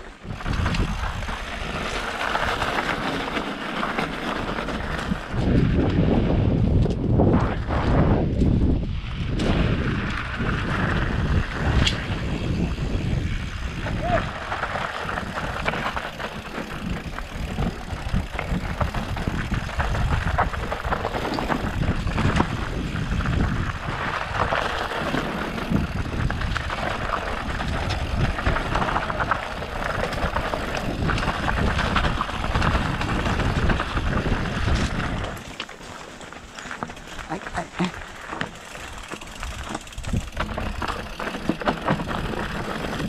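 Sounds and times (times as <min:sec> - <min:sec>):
wind buffeting microphone: 0:00.0 - 0:02.9, 0:04.5 - 0:35.6, 0:38.9 - 0:43.0
bike rattling over rocks: 0:00.0 - 0:43.0.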